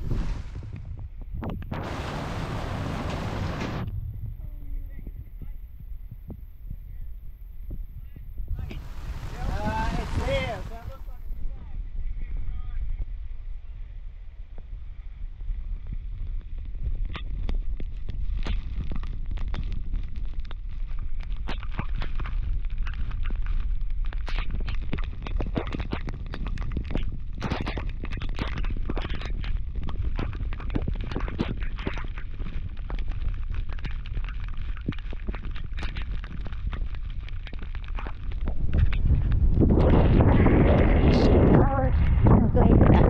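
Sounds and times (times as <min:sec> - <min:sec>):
sharp crackles and pops: 0:00.0 - 0:13.6, 0:14.2 - 0:43.0
wind buffeting microphone: 0:00.0 - 0:43.0.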